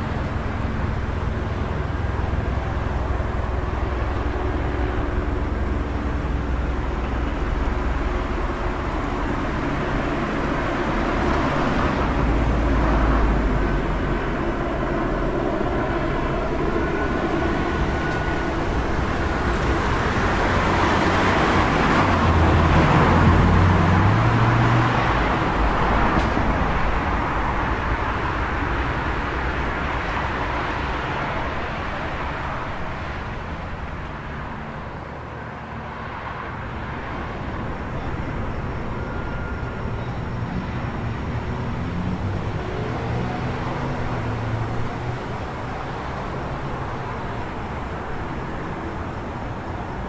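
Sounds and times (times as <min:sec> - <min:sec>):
vehicle engine approaching: 0:00.0 - 0:35.0, 0:36.1 - 0:50.0.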